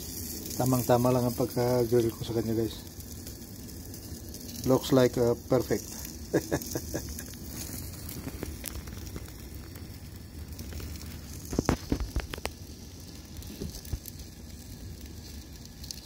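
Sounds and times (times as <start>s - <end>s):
grill sizzling: 0.0s - 16.0s.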